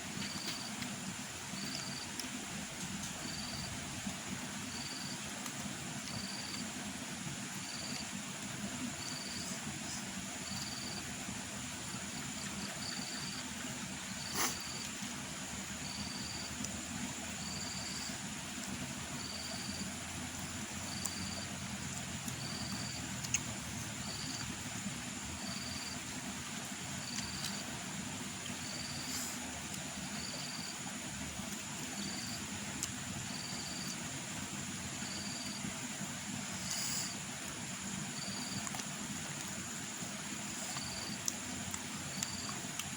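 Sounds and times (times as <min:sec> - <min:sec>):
insects chirping: 0:00.0 - 0:42.9
steady high buzz and hiss: 0:00.0 - 0:42.9.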